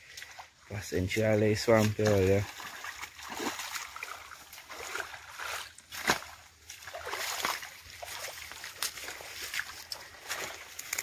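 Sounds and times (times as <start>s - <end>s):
footsteps sloshing through water: 0.0s - 11.0s.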